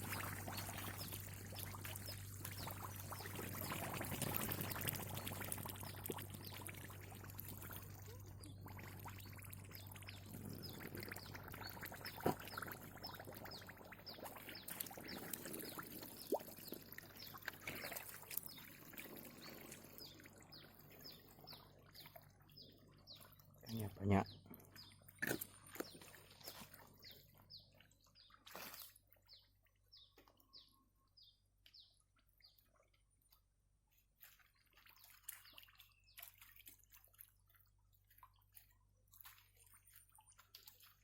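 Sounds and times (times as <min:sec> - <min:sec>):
water pouring and splashing: 0:00.0 - 0:22.4, 0:24.5 - 0:29.2, 0:32.7 - 0:41.0.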